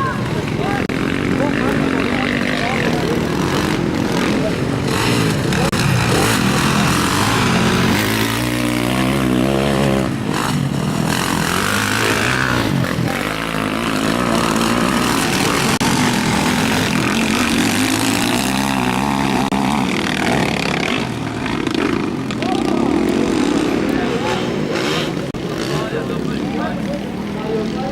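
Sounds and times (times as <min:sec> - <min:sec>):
motocross motorcycles revving: 0:00.0 - 0:27.9.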